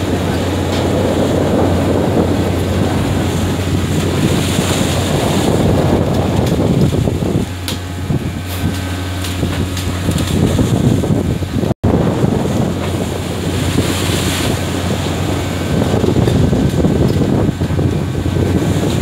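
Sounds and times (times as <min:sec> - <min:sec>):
boat engine low hum: 0:00.0 - 0:19.0
sea rushing along hull: 0:00.0 - 0:19.0
wind buffeting microphone: 0:00.0 - 0:19.0.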